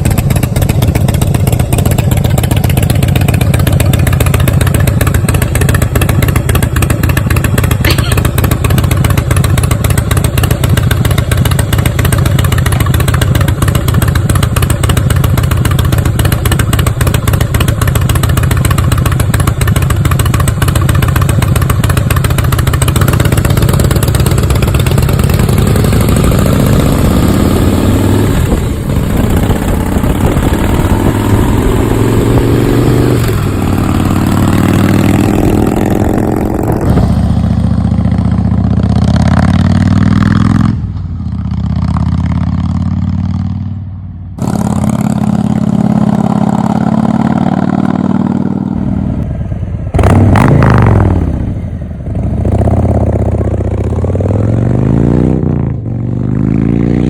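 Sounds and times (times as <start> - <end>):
motorcycle engine running loud: 0.0 - 57.0.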